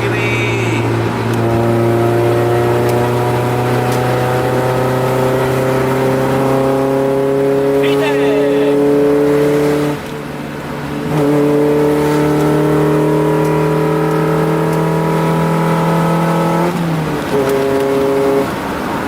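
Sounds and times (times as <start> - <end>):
car engine pulling hard: 0.0 - 19.0.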